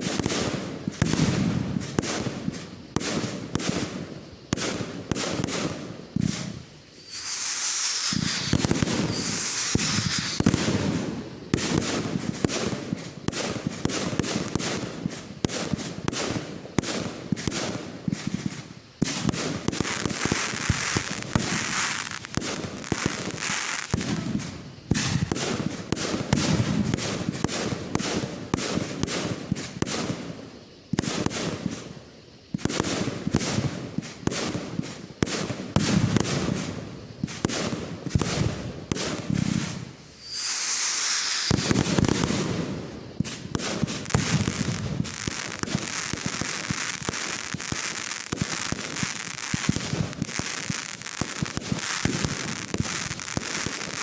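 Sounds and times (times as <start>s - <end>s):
firework hiss: 0.0s - 54.0s
fireworks exploding and crackling: 0.0s - 54.0s.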